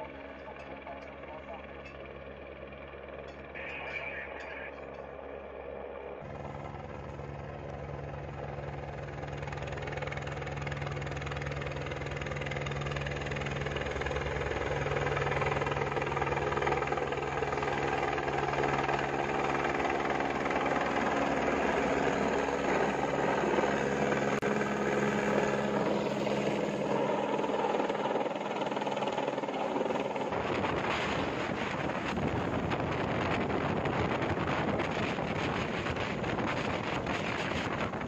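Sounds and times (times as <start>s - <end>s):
helicopter hovering overhead: 0.0s - 38.0s.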